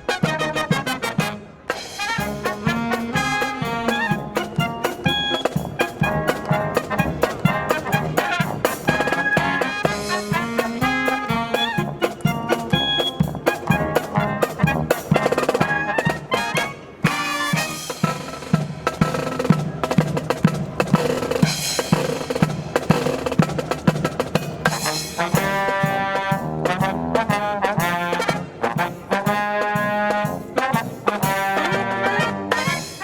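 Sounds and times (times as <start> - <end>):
brass band playing: 0.0 - 33.0
snare and bass drum beat: 0.0 - 33.0.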